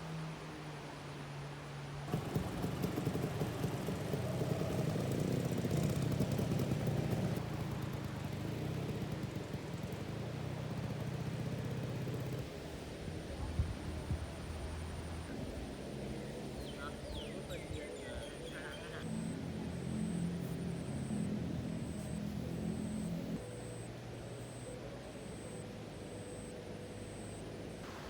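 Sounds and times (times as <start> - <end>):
scooter engine running: 2.1 - 28.0.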